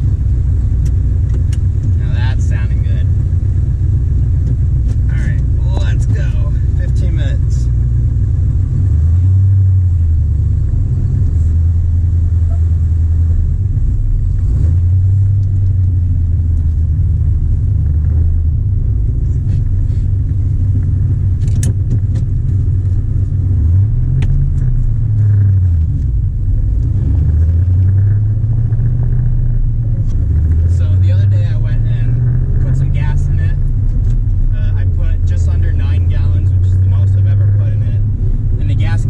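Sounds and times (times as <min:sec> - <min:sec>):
car engine rumbling: 0:00.0 - 0:39.0.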